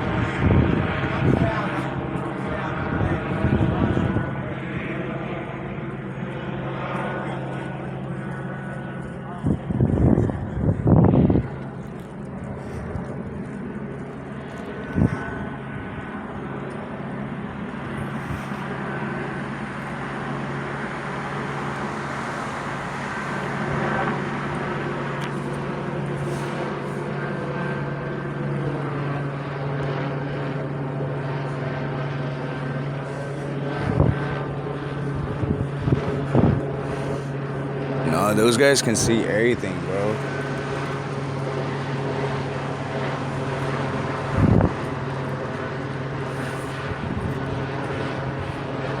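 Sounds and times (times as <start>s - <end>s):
helicopter droning overhead: 0.0s - 49.0s.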